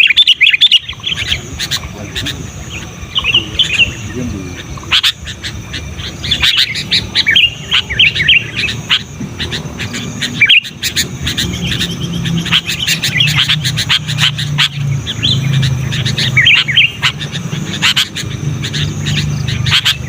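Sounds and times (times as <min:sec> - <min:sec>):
bulbul singing and chattering: 0:00.0 - 0:20.0.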